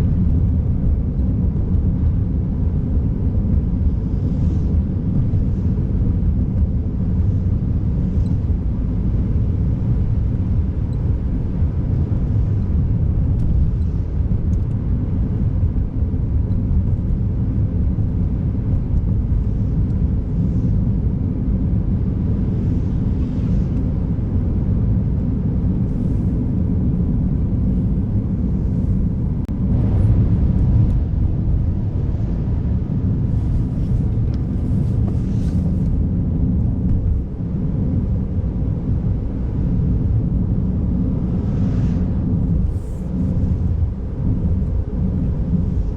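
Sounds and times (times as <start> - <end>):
car driving road noise: 0.0 - 45.9.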